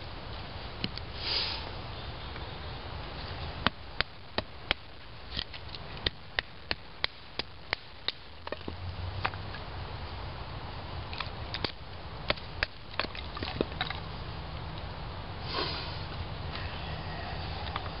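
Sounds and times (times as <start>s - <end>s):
rustle: 0.0s - 18.0s.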